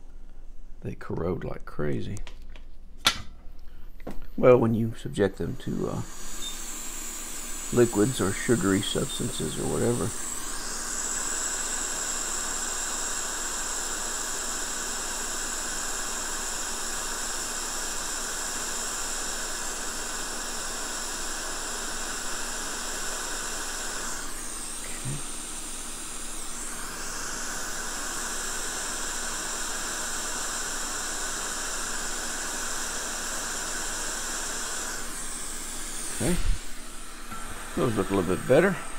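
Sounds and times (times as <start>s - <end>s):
air blower hissing: 4.4s - 38.9s.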